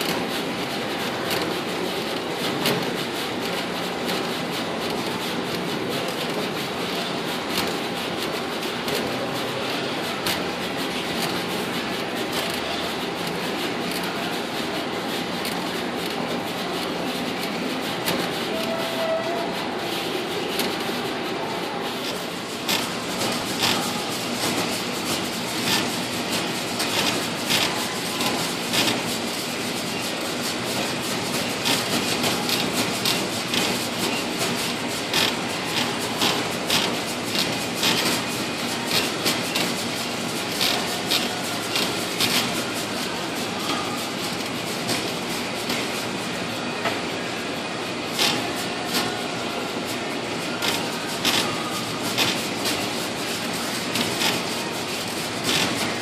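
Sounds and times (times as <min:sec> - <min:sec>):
machine whirring with fast clicking: 0:00.0 - 0:56.0.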